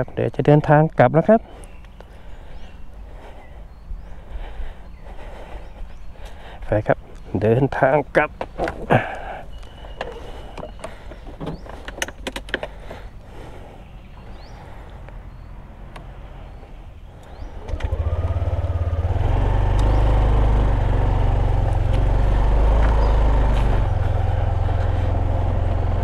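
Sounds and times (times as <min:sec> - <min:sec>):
scooter engine rumbling: 0:01.7 - 0:26.0.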